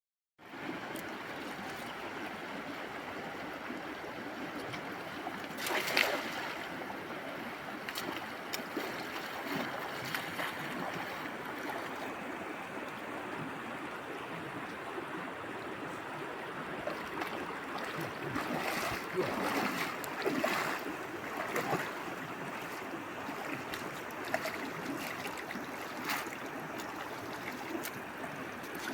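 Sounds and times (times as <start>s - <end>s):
rush of moving water: 0.4s - 28.9s
water splashes: 0.5s - 28.9s.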